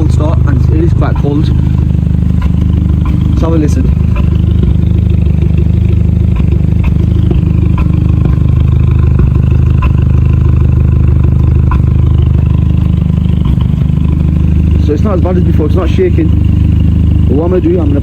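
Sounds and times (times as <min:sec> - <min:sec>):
car engine idling with ticks: 0:00.0 - 0:18.0.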